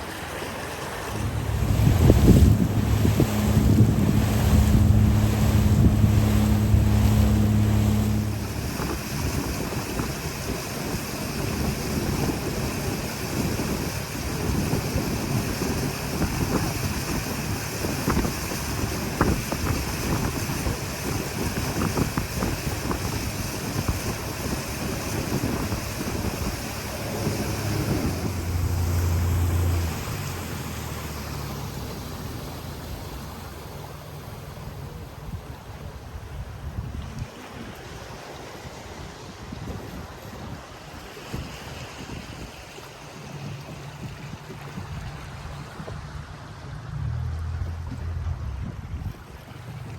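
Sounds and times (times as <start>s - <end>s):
outboard motor running: 0.0s - 49.9s
wind buffeting microphone: 1.0s - 31.9s, 35.1s - 49.9s.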